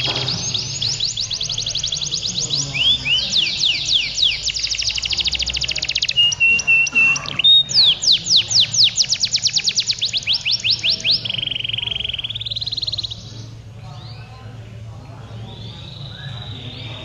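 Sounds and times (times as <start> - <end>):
canaries trilling: 0.0 - 17.0.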